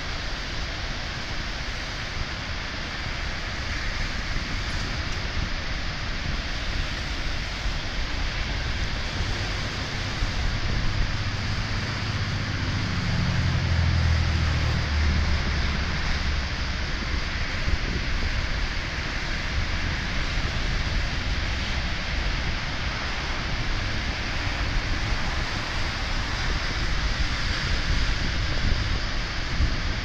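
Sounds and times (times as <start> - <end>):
ocean surf breaking: 2.0 - 30.0
wind buffeting microphone: 2.2 - 30.0.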